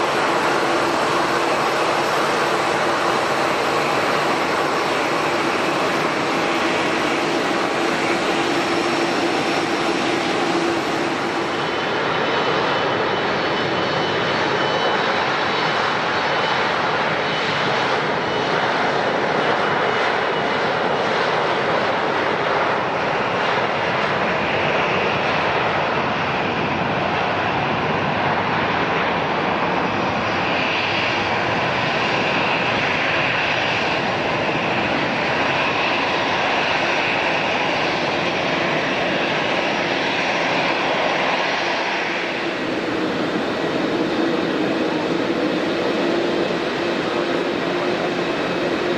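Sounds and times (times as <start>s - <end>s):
airliner engines running: 0.0s - 48.9s.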